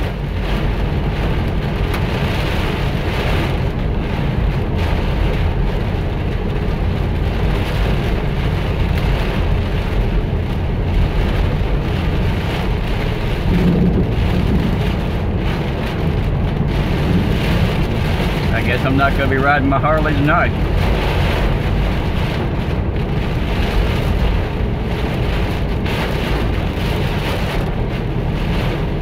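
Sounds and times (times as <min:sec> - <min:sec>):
heavy rain on car roof: 0:00.0 - 0:29.0
tyres rumbling on wet road: 0:00.0 - 0:29.0.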